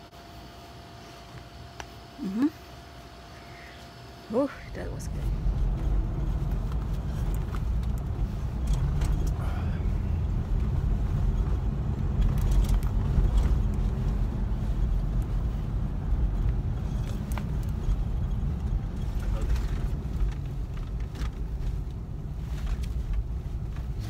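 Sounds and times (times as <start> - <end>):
car engine rumble inside cabin: 0.0 - 24.0.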